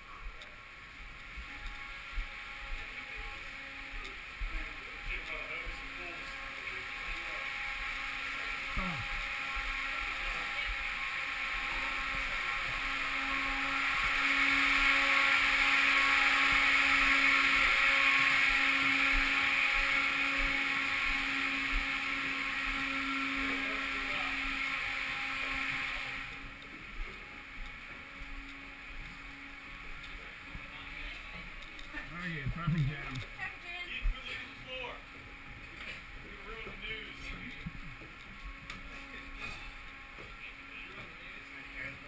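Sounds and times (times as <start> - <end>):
low hum: 0.0 - 42.0
steady rushing hiss: 0.0 - 42.0.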